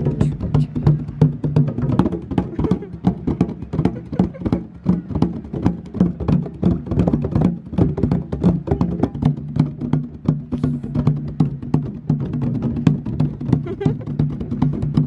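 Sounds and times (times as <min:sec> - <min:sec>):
hand drums slapped with palms: 0:00.0 - 0:15.0.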